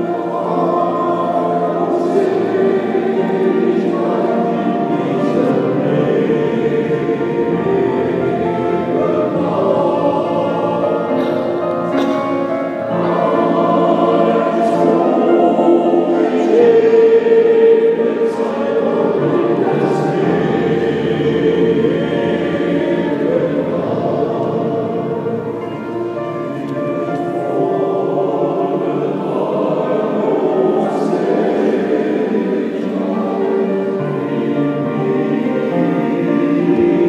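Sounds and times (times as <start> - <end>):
men's choir singing: 0.0 - 37.0.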